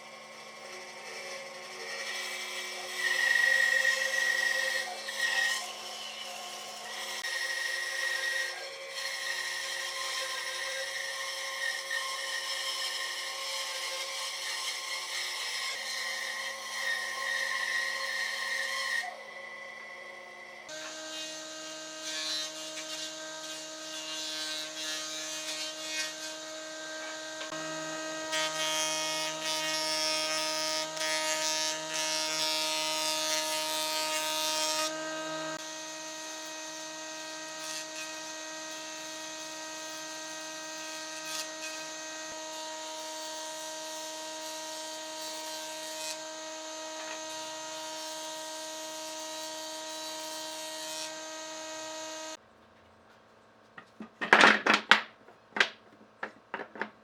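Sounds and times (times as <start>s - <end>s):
power tool motor whine: 0.0s - 24.1s, 24.7s - 32.2s, 34.9s - 52.4s.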